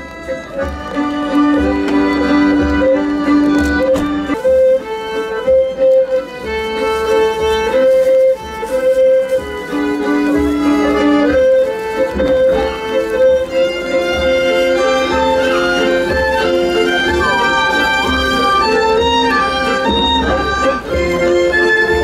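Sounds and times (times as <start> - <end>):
fiddle playing long notes: 0.0 - 22.0.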